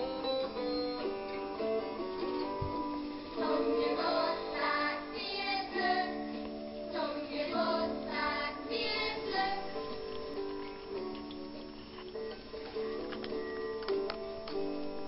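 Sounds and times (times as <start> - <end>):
instrumental backing music: 0.0 - 15.0.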